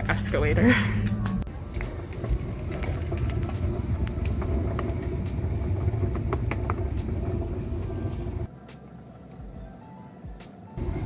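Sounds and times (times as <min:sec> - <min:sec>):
escalator rumble: 0:00.0 - 0:09.8, 0:10.5 - 0:11.0
faint hum: 0:00.8 - 0:11.0.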